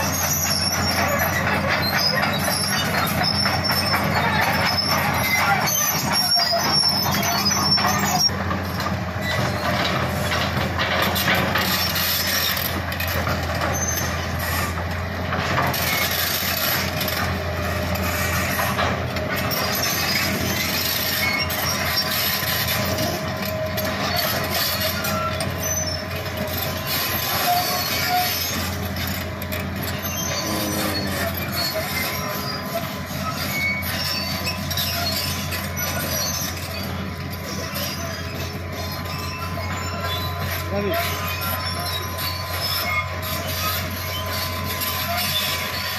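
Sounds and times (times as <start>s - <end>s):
short high squeals: 0.0s - 10.5s, 11.2s - 14.8s, 15.6s - 45.9s
excavator diesel engine humming: 0.0s - 45.9s.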